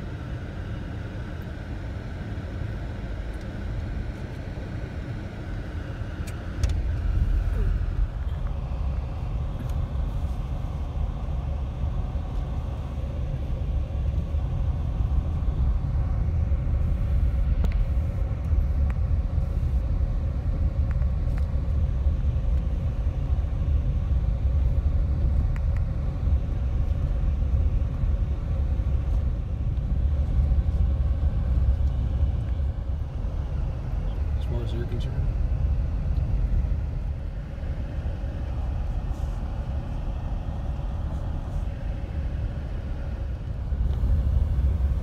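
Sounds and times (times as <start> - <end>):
car engine rumble: 0.0 - 45.0.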